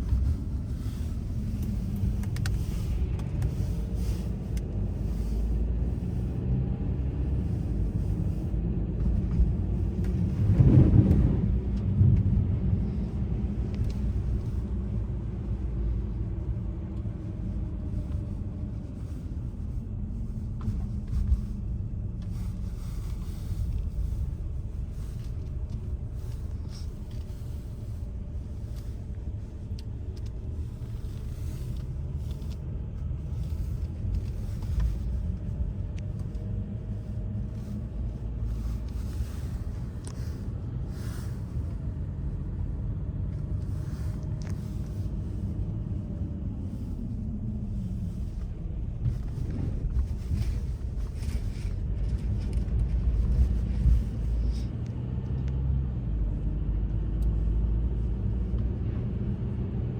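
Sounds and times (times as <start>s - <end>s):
vehicle rumble: 0.0s - 59.9s.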